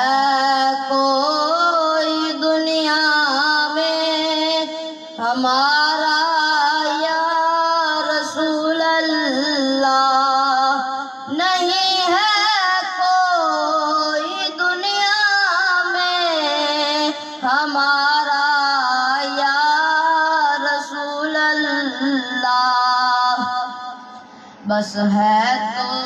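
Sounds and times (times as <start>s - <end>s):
boy singing into a microphone: 0.0s - 26.0s.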